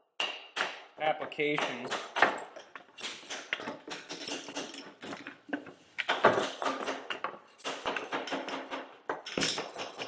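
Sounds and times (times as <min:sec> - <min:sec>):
knocks and metallic clatter: 0:00.1 - 0:10.0.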